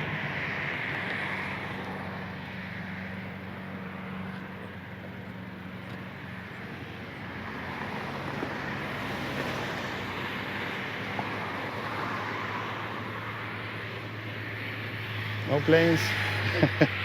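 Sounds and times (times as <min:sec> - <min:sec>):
passing road traffic: 0:00.0 - 0:17.0.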